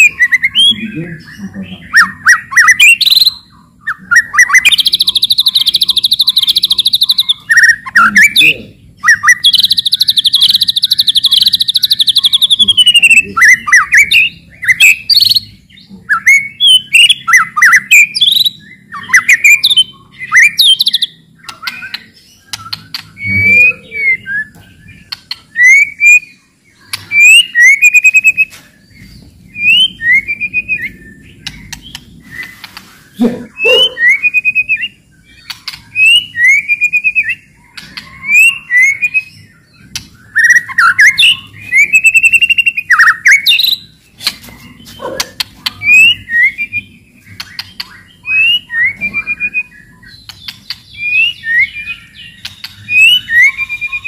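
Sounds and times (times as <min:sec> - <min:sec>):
bird whistled song: 0:00.0 - 0:54.0.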